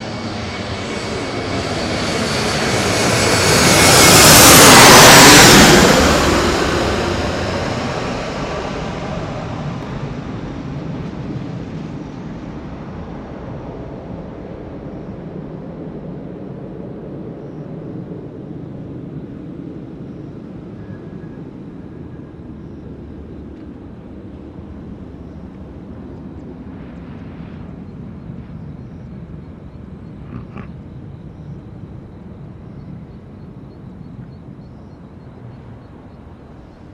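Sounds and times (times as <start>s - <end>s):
jet engines of landing airliner: 0.0s - 36.9s.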